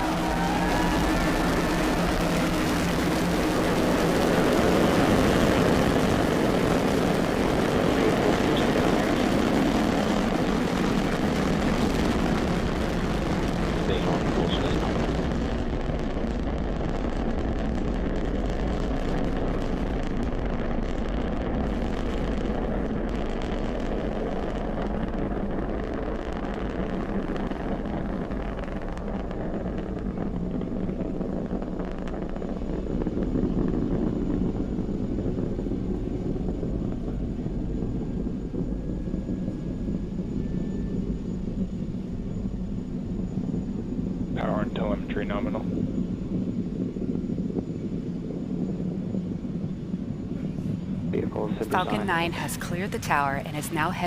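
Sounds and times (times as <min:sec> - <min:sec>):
rocket engines rumbling: 0:00.0 - 0:54.0.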